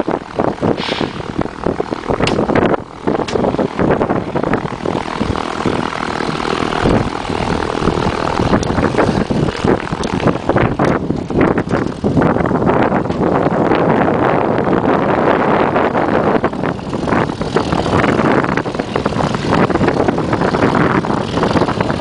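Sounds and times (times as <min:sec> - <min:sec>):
propeller aircraft engine drone: 0:00.0 - 0:22.0.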